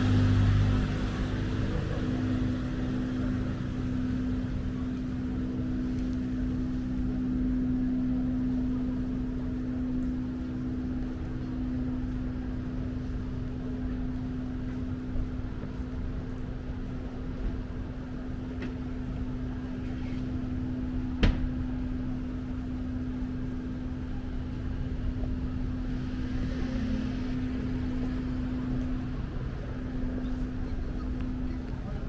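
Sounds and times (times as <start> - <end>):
low rumble: 0.0 - 32.0
steady mechanical hum: 0.0 - 32.0.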